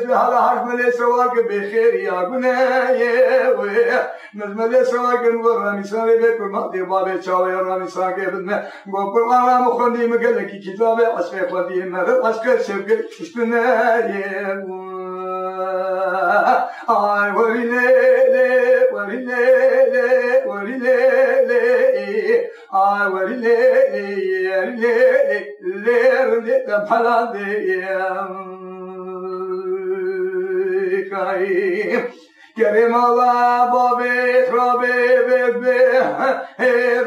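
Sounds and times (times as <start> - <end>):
man singing unaccompanied: 0.0 - 37.0.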